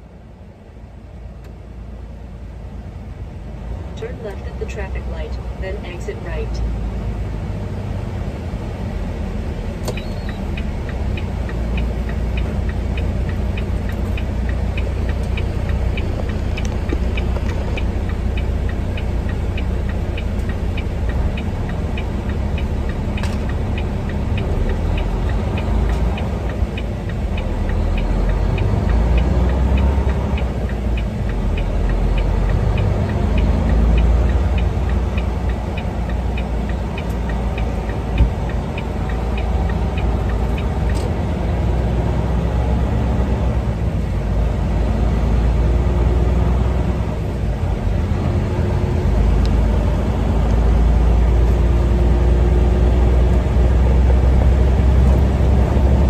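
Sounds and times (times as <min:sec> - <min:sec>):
truck engine and road rumble: 0:00.0 - 0:56.0
turn signal ticking: 0:03.8 - 0:56.0.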